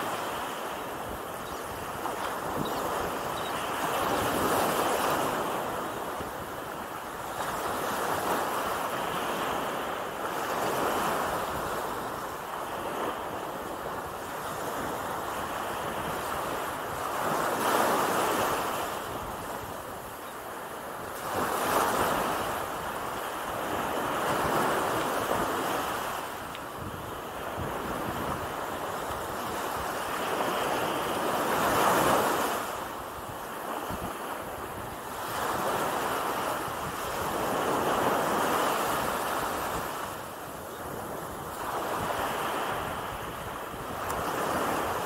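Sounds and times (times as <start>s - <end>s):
small waves breaking on beach: 0.0s - 45.0s.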